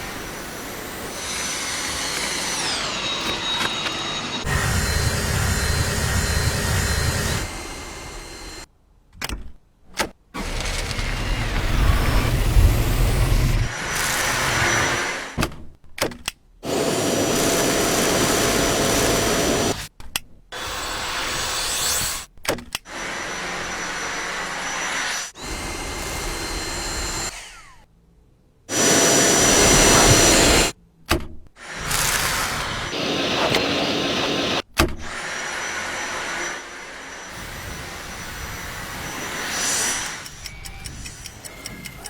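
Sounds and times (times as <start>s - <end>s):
vacuum cleaner whirring: 0.0s - 8.7s, 10.4s - 15.4s, 16.6s - 19.9s, 20.6s - 22.3s, 22.9s - 27.8s, 28.7s - 30.8s, 31.6s - 41.7s.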